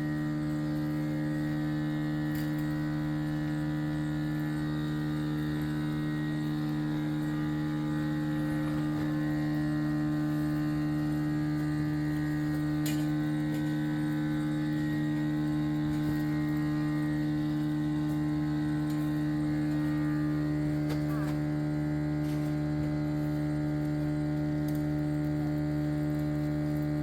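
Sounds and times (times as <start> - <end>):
steady low machine hum: 0.0 - 27.0.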